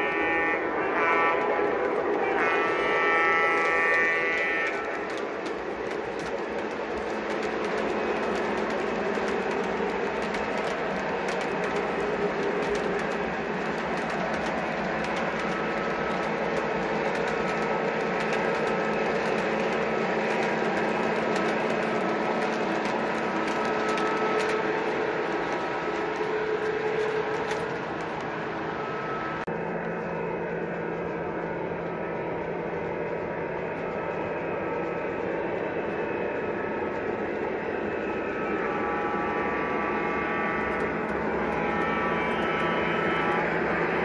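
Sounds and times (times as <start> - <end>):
wheels clicking over rail joints: 0.0 - 28.8, 29.4 - 44.0
metal wheels rolling on rail: 0.0 - 44.0.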